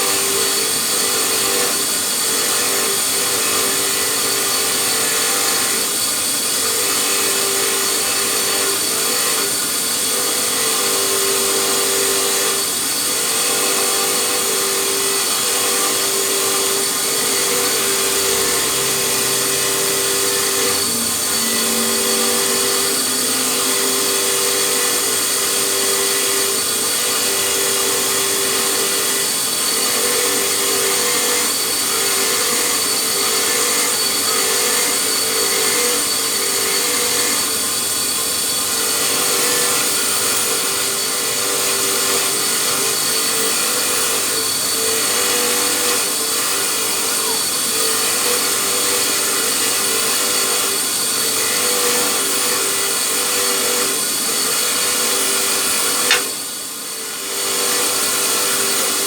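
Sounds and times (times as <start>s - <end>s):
power tool running on metal: 0.0s - 59.0s.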